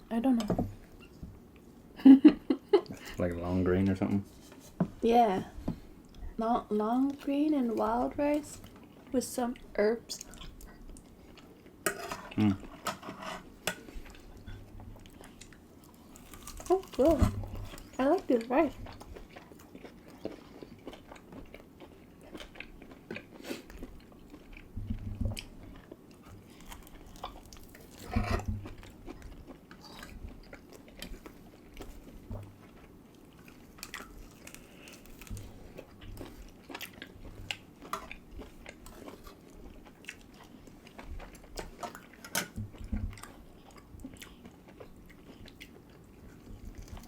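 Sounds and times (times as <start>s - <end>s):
people chewing food: 0.7s - 47.0s.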